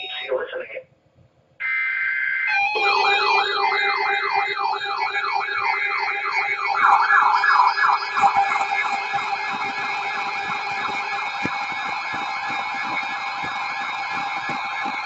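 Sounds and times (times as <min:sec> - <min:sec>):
electronic siren warbling: 0:01.6 - 0:15.0.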